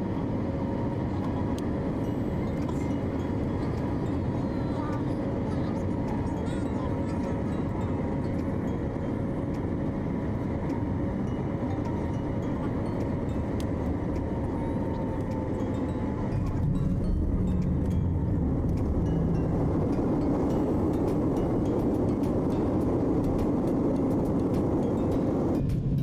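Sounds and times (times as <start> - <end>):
airliner cabin engine rush: 0.0 - 26.0.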